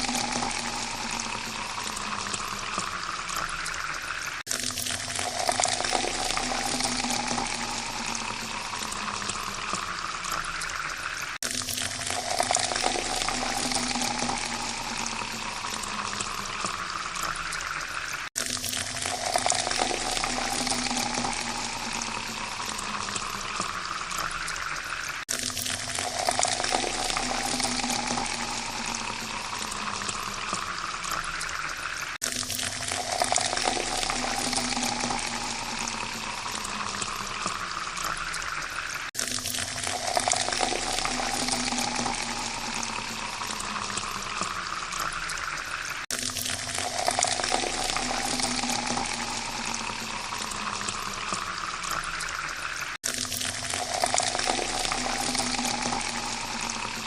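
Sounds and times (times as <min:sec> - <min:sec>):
water pouring into a glass: 0:00.0 - 0:57.0.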